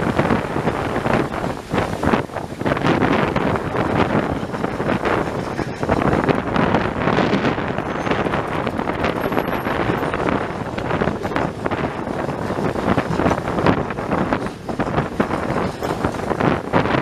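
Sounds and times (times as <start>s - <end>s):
train running on track: 0.0s - 17.0s
wind buffeting microphone: 0.0s - 17.0s.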